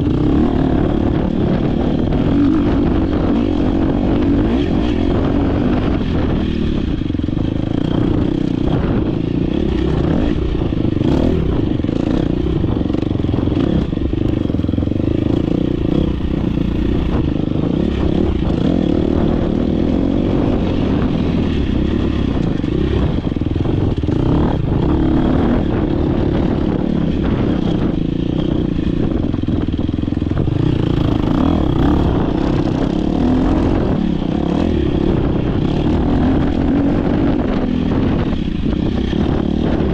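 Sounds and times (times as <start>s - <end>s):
dirt bike engine running hard: 0.0s - 39.9s.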